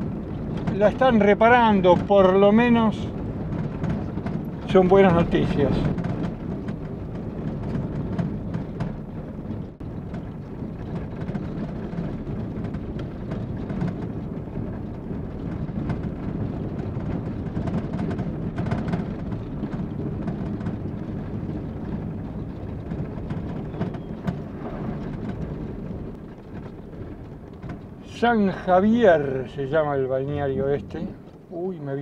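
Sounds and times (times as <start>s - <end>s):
knocks and rattles: 0.0s - 31.5s
van engine and tyres rumbling: 0.0s - 32.0s.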